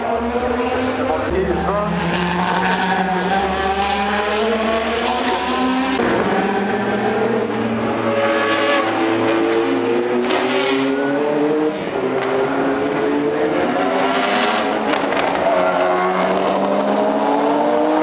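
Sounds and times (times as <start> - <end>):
racing cars passing at speed: 0.0 - 18.0.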